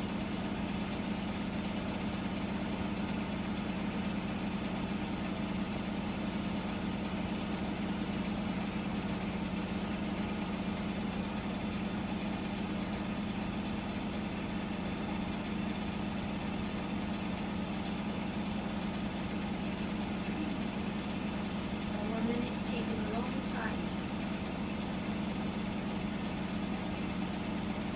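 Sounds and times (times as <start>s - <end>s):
washing machine humming: 0.0s - 27.9s.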